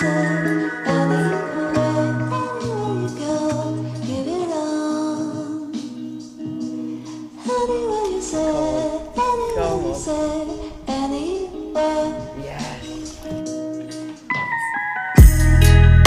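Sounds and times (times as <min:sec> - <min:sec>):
song with sung vocals: 0:00.0 - 0:14.8.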